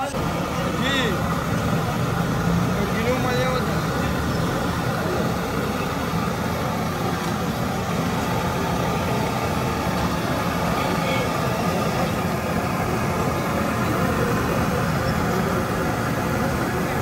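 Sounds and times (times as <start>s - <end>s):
vehicle traffic noise: 0.0s - 17.0s.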